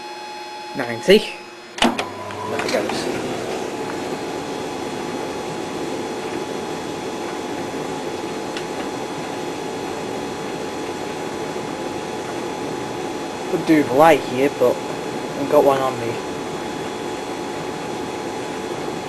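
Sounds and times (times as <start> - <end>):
motor hum: 0.0 - 19.0
tumble dryer fan air rush: 0.8 - 19.0.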